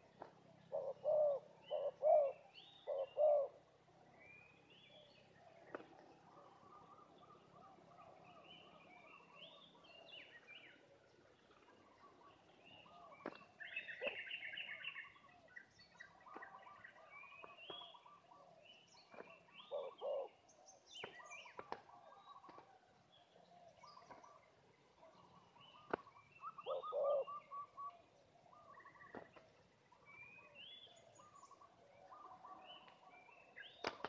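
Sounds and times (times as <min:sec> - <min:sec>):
small birds chirping and trilling: 0:00.0 - 0:34.0.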